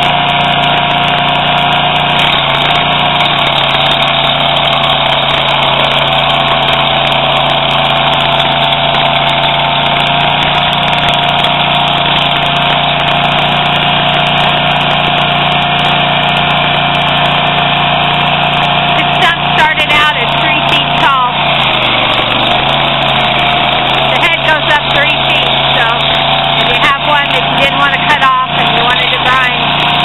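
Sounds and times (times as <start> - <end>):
steady whine: 0.0 - 29.9
stump grinder engine running: 0.0 - 30.0.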